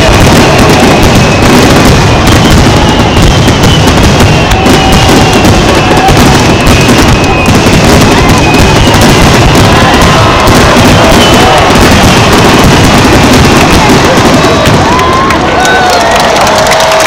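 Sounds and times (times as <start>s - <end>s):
firework shells bursting: 0.0s - 15.4s.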